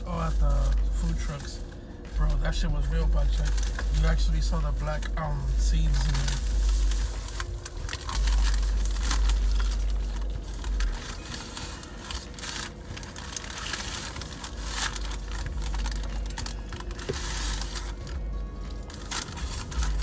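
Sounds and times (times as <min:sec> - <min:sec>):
low rumble inside a car: 0:00.0 - 0:20.0
paper wrappers crinkling: 0:00.0 - 0:20.0.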